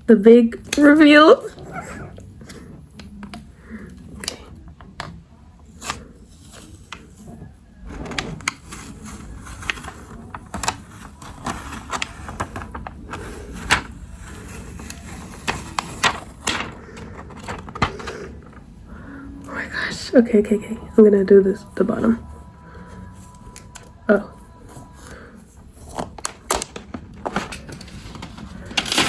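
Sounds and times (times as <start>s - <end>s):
cardboard and plastic handling: 1.5s - 19.2s, 22.8s - 29.0s.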